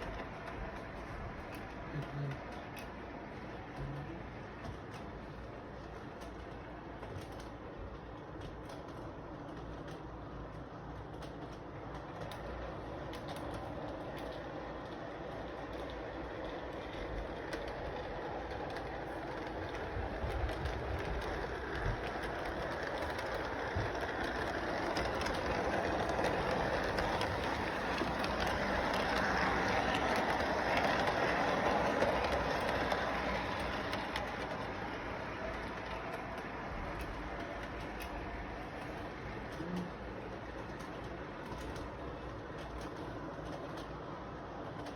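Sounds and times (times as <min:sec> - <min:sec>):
train wheels clattering on track: 0:00.0 - 0:44.9.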